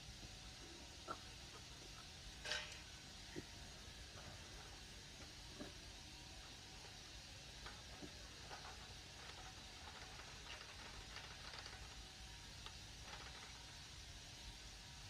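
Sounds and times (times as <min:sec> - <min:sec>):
low hiss: 0:00.0 - 0:15.0.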